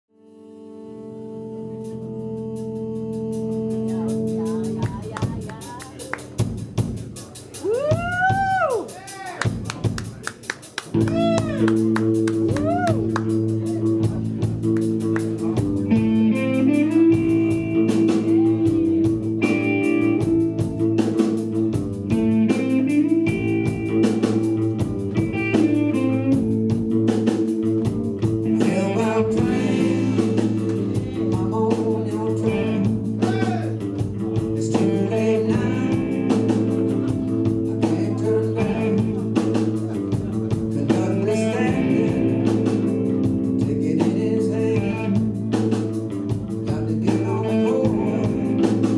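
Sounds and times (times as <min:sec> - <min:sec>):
electric guitar lines: 0:00.1 - 0:07.0, 0:09.4 - 0:48.9
bass line: 0:00.1 - 0:48.9
drums: 0:00.3 - 0:48.9.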